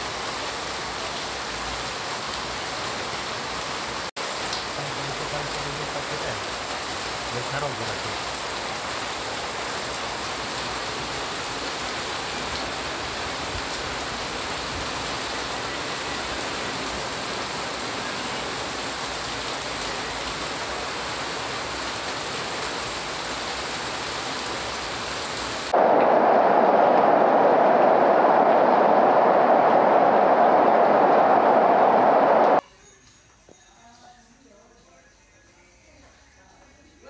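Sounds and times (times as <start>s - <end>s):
heavy rain pouring: 0.0s - 32.6s.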